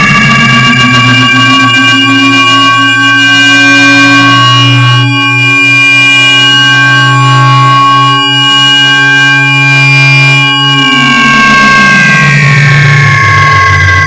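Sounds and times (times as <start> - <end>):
buzzy electronic drone: 0.0 - 14.0.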